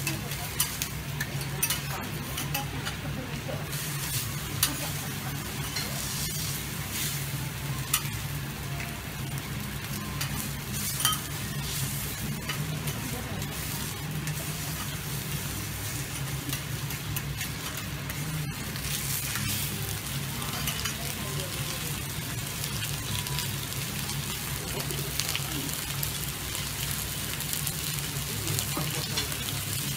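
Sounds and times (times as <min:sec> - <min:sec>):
steaks sizzling on a griddle: 0:00.0 - 0:29.9.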